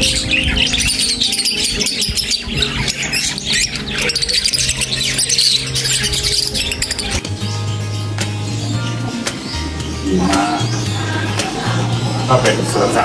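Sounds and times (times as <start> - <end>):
background music with low notes: 0.0 - 13.0
lovebirds chirping and squawking: 0.0 - 13.0.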